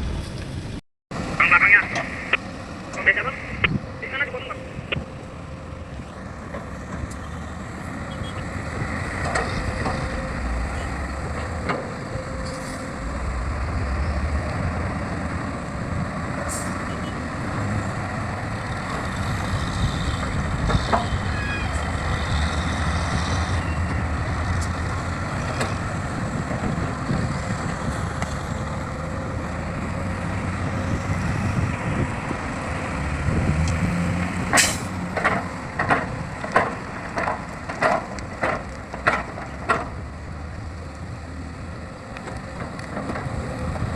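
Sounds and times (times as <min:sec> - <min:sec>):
diesel machinery engine rumble: 0:00.0 - 0:43.9.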